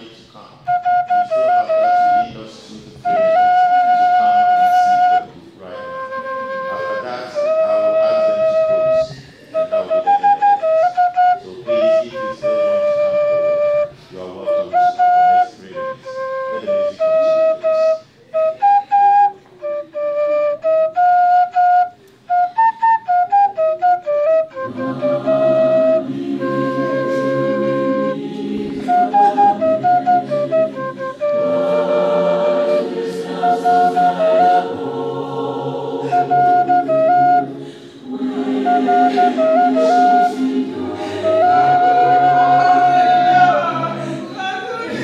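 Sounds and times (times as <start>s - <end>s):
wind instrument melody: 0.0s - 45.0s.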